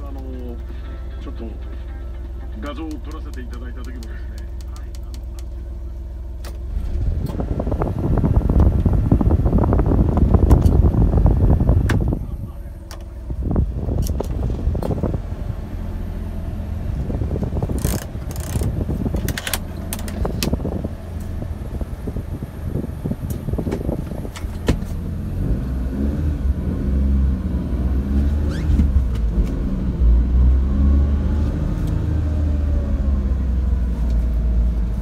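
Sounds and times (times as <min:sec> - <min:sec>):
heater blower fan rushing: 0:02.9 - 0:35.0.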